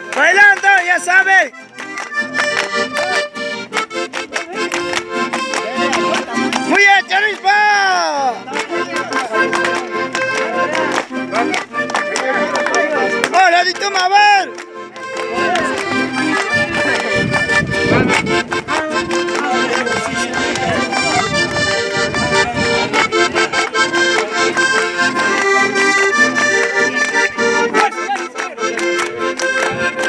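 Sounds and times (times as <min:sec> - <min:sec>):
accordion playing dance tune: 0:00.0 - 0:30.0.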